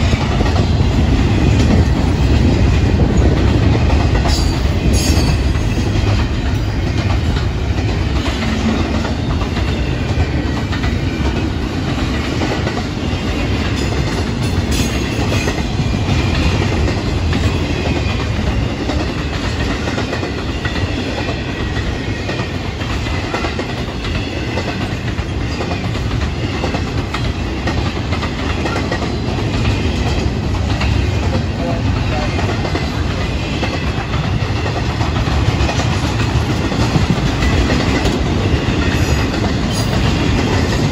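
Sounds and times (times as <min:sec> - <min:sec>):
freight train wheels clickety-clack: 0:00.0 - 0:40.9.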